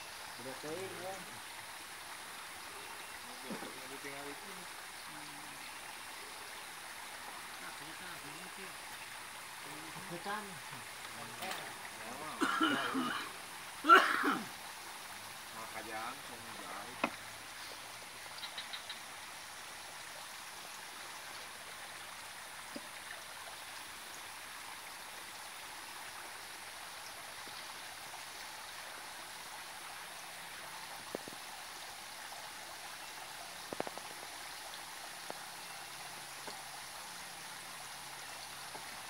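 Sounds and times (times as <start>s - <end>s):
water splashing into a pond: 0.0s - 39.0s.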